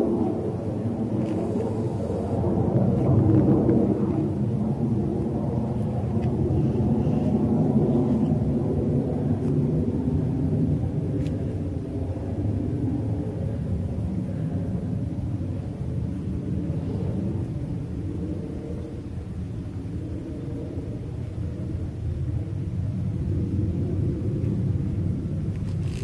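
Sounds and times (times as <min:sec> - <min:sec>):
airliner jet engines rumbling: 0:00.0 - 0:26.0.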